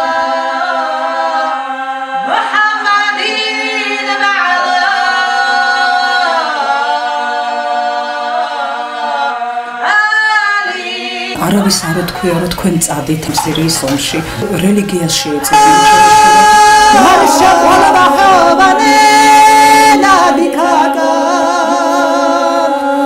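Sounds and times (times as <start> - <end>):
unaccompanied voices singing: 0.0 - 23.0.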